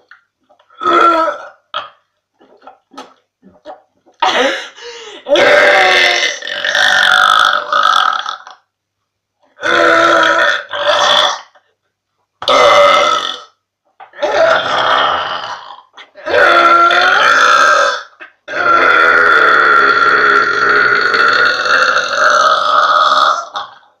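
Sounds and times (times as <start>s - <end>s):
woman burping: 0.8s - 8.6s, 12.4s - 23.8s.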